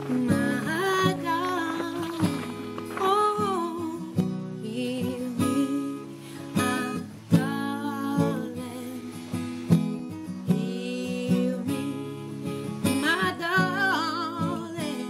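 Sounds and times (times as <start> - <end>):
person singing wordlessly: 0.0 - 9.2, 10.4 - 12.3, 12.9 - 15.0
acoustic guitar strumming: 0.0 - 15.0.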